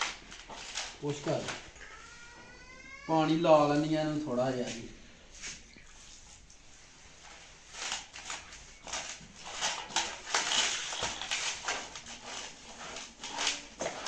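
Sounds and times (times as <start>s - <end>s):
batter mixed by hand rustling: 0.0s - 2.6s, 3.2s - 14.0s.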